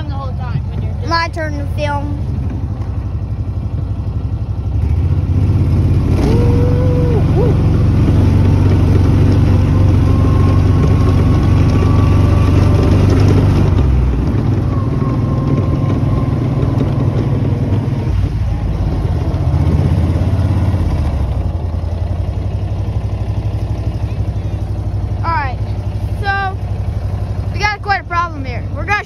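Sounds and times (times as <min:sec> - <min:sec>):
rumble of ride over rough grass: 0:00.0 - 0:29.0
utility vehicle engine running: 0:00.0 - 0:29.0.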